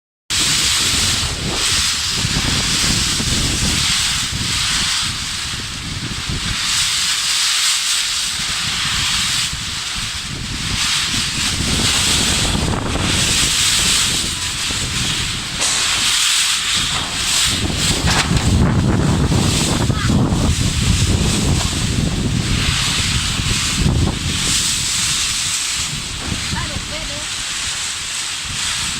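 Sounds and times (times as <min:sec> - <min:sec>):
strong wind gusts: 0:00.3 - 0:07.3, 0:08.2 - 0:28.9
wind buffeting microphone: 0:00.3 - 0:07.4, 0:08.1 - 0:28.9.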